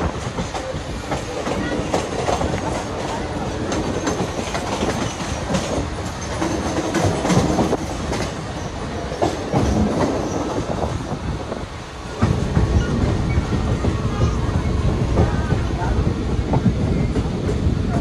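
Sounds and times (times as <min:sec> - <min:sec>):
low train rumble: 0:00.0 - 0:18.0
train wheels clattering over joints: 0:00.0 - 0:18.0.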